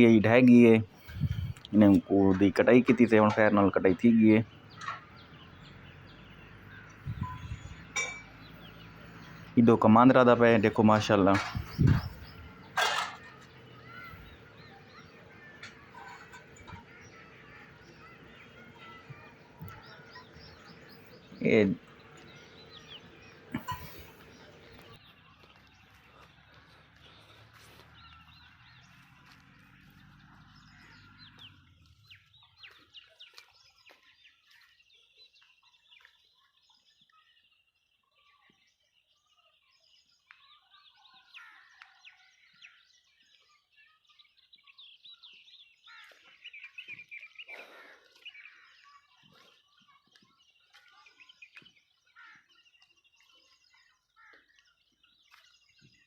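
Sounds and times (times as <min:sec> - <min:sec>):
faint birdsong chirps: 0:00.0 - 0:56.0.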